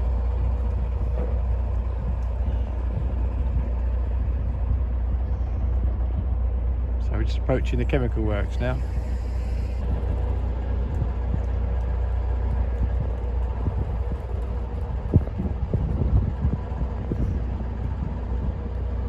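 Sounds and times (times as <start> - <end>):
diesel boat engine running: 0.0 - 19.0.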